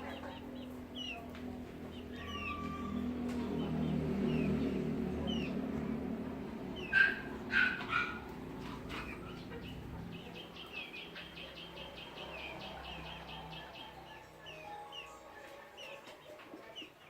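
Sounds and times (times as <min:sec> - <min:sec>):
chickens squawking: 0:00.0 - 0:05.8, 0:06.6 - 0:17.0.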